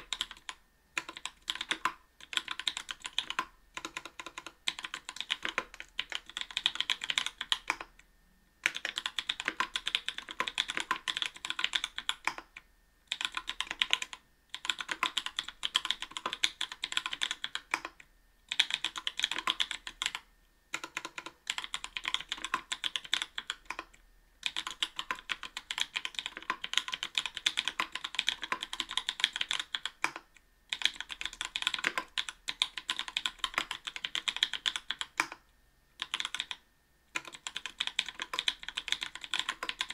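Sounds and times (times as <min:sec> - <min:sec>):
mechanical keyboard typing: 0:00.0 - 0:07.9, 0:08.6 - 0:35.4, 0:36.0 - 0:39.9.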